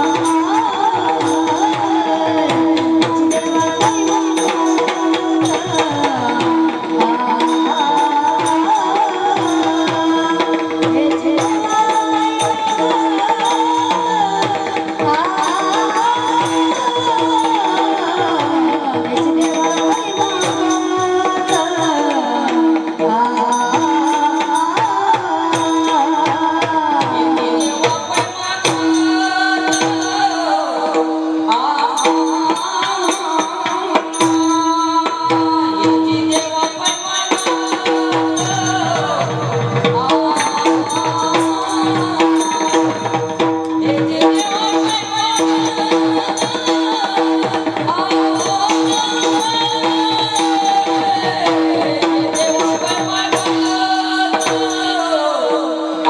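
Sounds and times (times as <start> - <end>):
person singing: 0.0 - 56.0.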